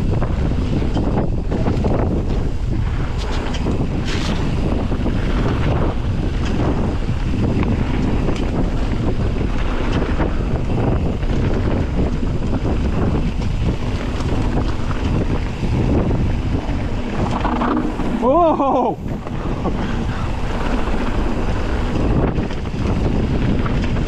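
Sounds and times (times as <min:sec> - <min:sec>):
bike clicks and rattles: 0:00.0 - 0:24.0
wind buffeting microphone: 0:00.0 - 0:24.0.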